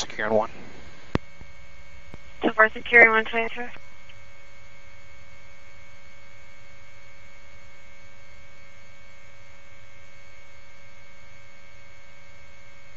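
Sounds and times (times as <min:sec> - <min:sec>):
constant high radio tones: 0:00.0 - 0:12.9
electrical hum: 0:00.0 - 0:12.9.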